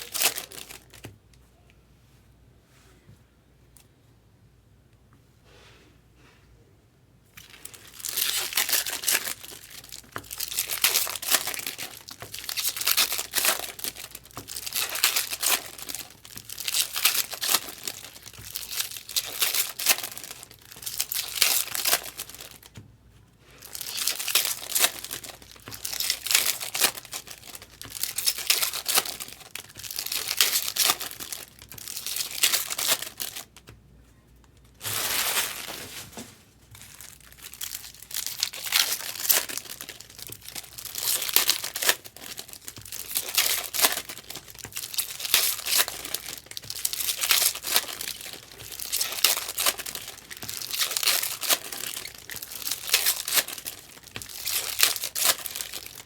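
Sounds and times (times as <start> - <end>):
card wrappers crinkling: 0.0 - 1.1, 7.4 - 22.8, 23.5 - 33.7, 34.6 - 56.0.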